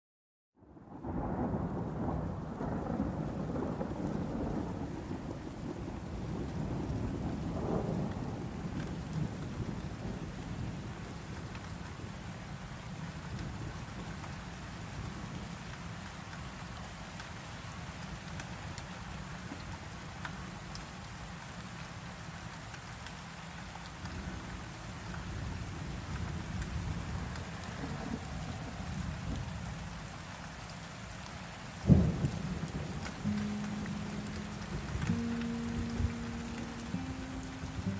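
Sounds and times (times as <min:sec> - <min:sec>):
steady rain: 0:00.6 - 0:37.9.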